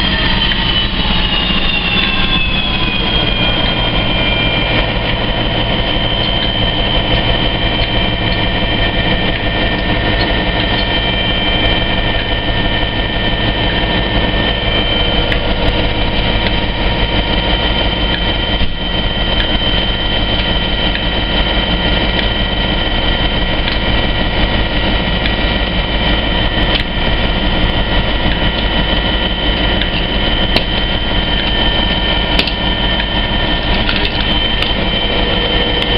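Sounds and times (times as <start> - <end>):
diesel locomotive engine idling: 0.0 - 35.9.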